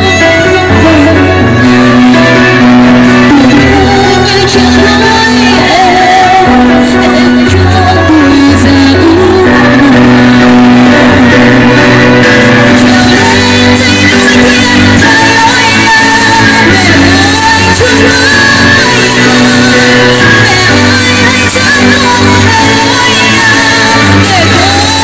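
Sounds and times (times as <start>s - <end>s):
loud backing track: 0.0s - 25.0s
woman singing into microphone: 0.0s - 25.0s.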